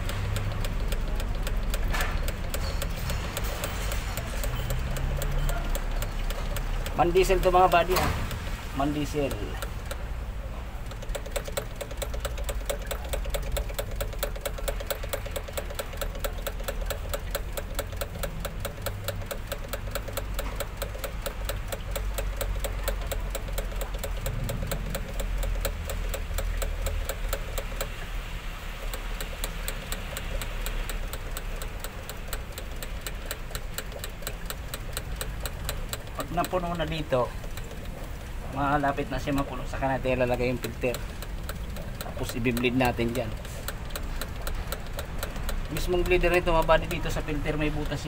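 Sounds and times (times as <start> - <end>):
priming pump clicking rapidly: 0.0 - 48.0.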